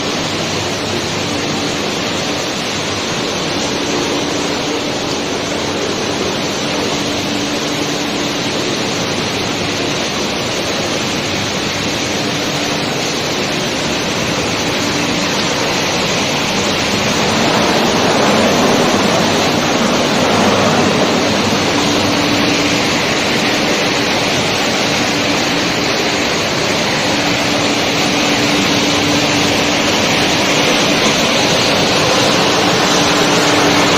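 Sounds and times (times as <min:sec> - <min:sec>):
low machine hum: 0:00.0 - 0:33.9
machine noise: 0:00.0 - 0:33.9
running water: 0:00.0 - 0:33.9.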